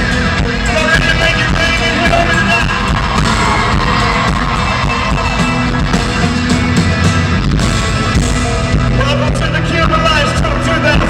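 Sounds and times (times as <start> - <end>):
live country band playing: 0.0 - 11.0.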